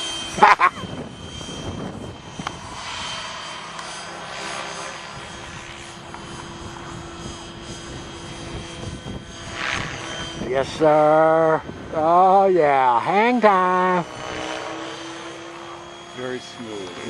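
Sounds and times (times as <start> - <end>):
helicopter motor whine: 0.0 - 17.0
rotor whoosh: 0.0 - 17.0.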